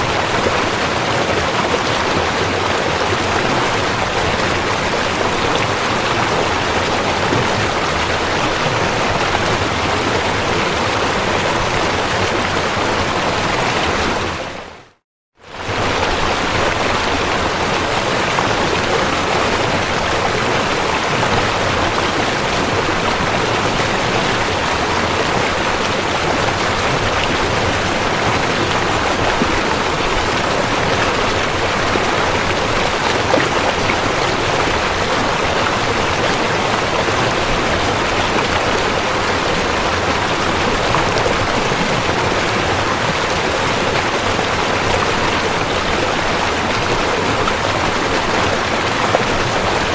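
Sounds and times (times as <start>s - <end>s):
rushing river: 0.0s - 49.9s.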